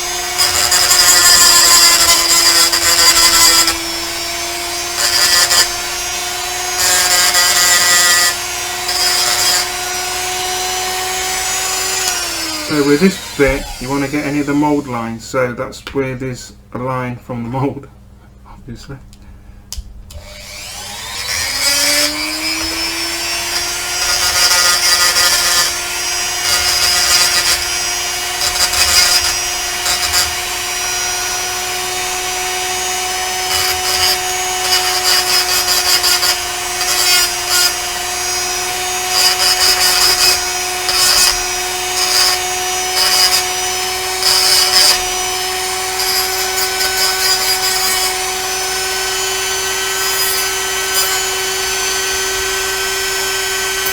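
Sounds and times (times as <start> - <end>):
rotary tool grinding metal: 0.0 - 14.9, 20.2 - 53.9
rotary tool whining: 0.0 - 14.9, 20.1 - 53.9.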